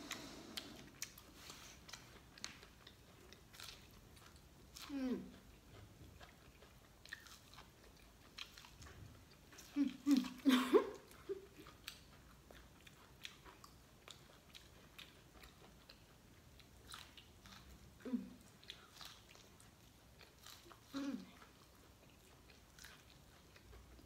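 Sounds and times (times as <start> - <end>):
corn being bitten and chewed: 0.1 - 10.5, 11.1 - 24.0.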